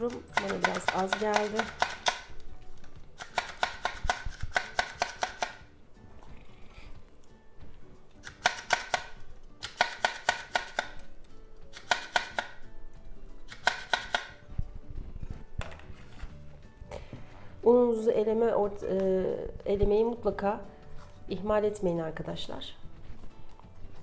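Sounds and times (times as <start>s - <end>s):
faint background music: 0.0s - 24.0s.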